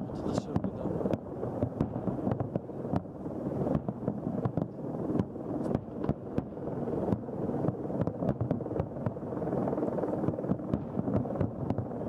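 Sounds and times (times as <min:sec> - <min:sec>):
continuous fireworks rumble: 0:00.0 - 0:12.0
fireworks bangs and cracks: 0:00.2 - 0:09.2, 0:10.3 - 0:12.0.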